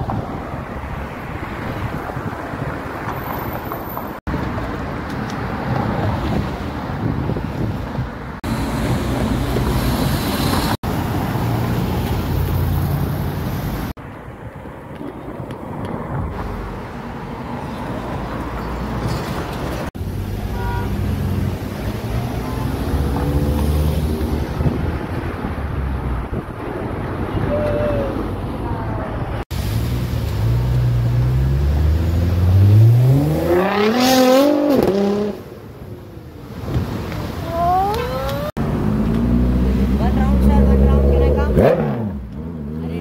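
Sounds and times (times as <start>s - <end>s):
car engines and tyre noise: 0.0s - 43.0s.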